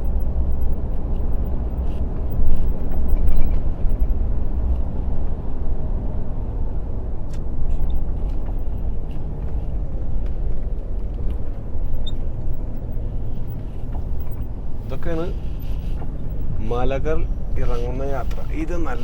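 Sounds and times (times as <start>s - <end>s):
lorry engine and road rumble: 0.0s - 19.0s.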